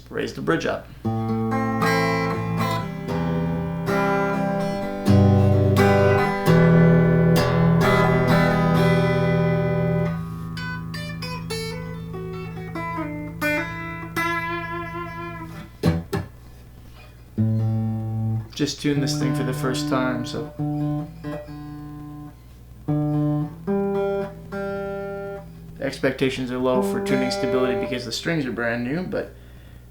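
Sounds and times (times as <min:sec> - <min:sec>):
electric guitar through tube amp: 0:01.0 - 0:28.6.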